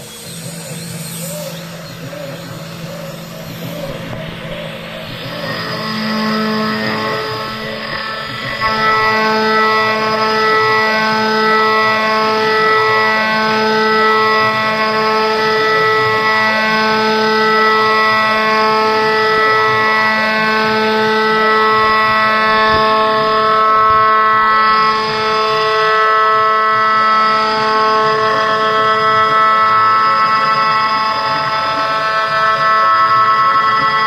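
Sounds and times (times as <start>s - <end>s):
cnc router cutting metal whine: 0.0s - 34.0s.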